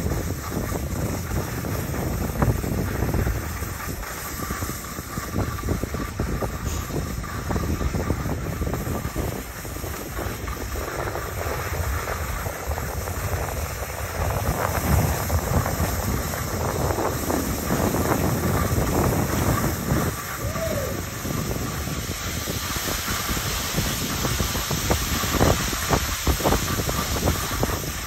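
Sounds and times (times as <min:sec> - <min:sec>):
skis scraping on snow: 0:00.0 - 0:28.0
wind buffeting microphone: 0:00.0 - 0:28.0.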